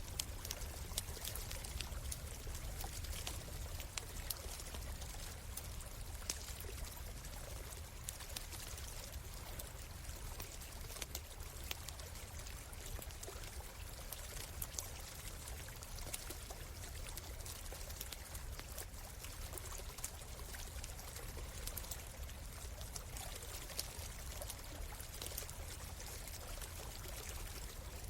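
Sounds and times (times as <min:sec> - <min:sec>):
campfire crackling: 0:00.0 - 0:28.0
stream water trickling: 0:00.0 - 0:28.0.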